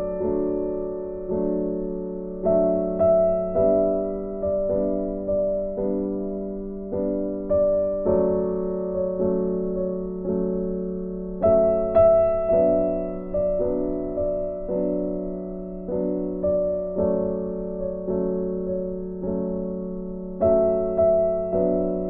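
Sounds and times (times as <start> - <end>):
slow gentle piano piece: 0.0 - 22.0.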